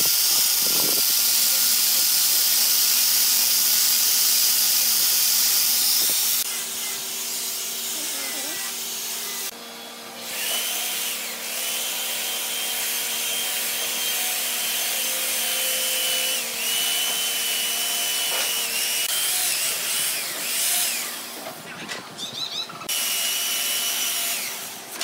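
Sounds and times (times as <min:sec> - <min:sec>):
belt sander whining on wood: 0:00.0 - 0:21.6.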